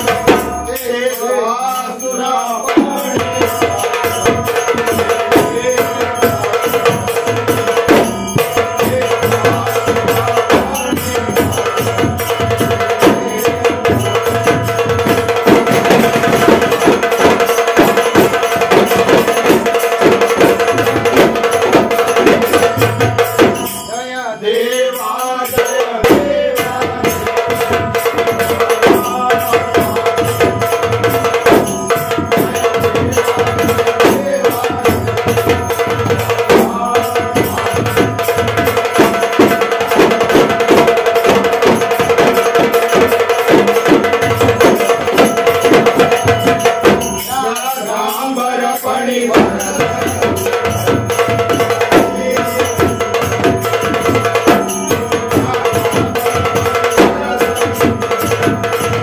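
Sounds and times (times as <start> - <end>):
clay-pot drums in fast rhythm: 0.0 - 59.0
drum beaten with thin sticks: 0.0 - 59.0
group of men singing: 0.0 - 59.0.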